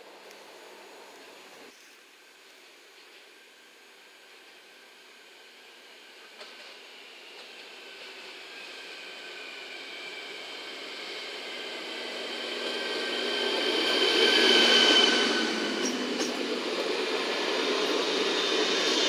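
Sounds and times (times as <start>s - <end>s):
train wheels on rails: 0.0s - 19.0s
train high-pitched whines: 0.4s - 19.0s.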